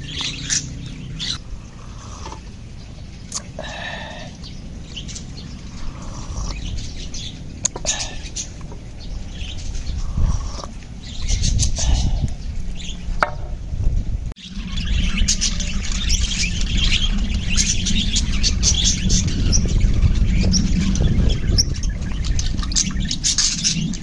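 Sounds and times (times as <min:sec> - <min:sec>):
small birds chirping: 0:00.0 - 0:13.6, 0:14.4 - 0:24.0
low steady rumble: 0:00.0 - 0:24.0.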